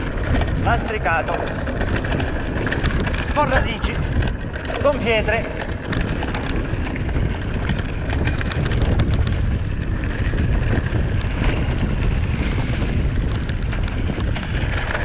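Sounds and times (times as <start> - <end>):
bike rattling: 0.0 - 15.0
tyres rolling: 0.0 - 15.0
wind buffeting microphone: 0.0 - 15.0.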